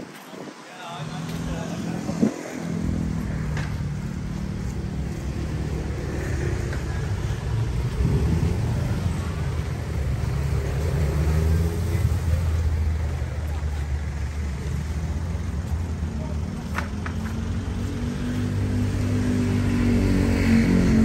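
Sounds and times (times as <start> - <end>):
vehicle engines humming: 0.1 - 21.0.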